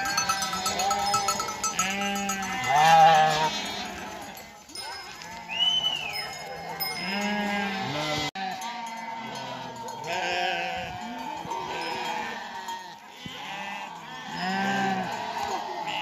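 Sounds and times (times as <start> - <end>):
livestock bleating: 0.0 - 16.0.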